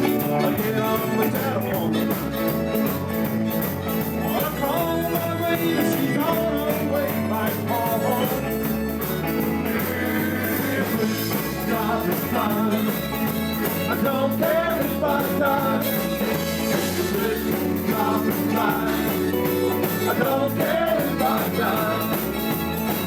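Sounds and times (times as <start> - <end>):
live rock and roll band: 0.0 - 23.0.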